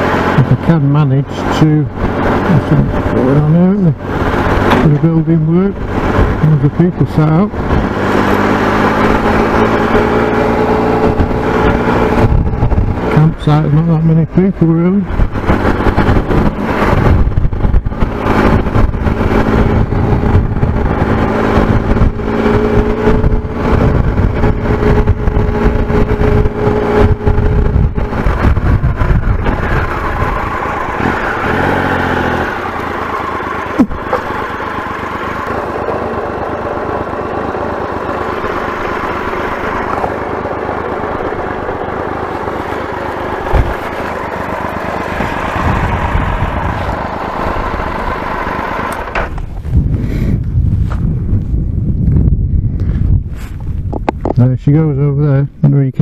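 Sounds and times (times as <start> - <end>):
motorcycle engine running: 0.0 - 54.6
wind buffeting microphone: 1.6 - 56.0.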